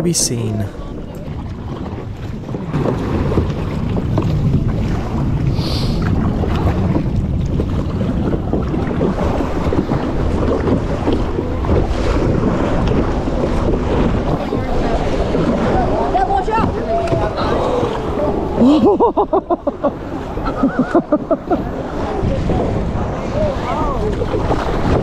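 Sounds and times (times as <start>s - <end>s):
wind buffeting microphone: 1.0s - 18.6s, 20.0s - 25.0s
water splashing against kayak: 1.2s - 25.0s.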